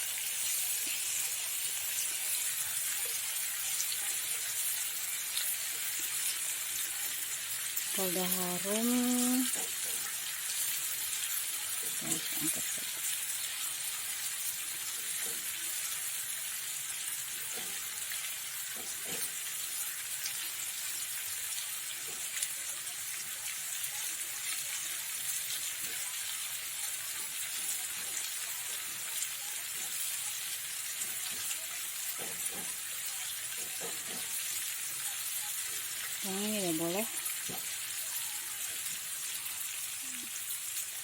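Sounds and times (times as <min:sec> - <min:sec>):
oil sizzling in a frying pan: 0:00.0 - 0:41.0.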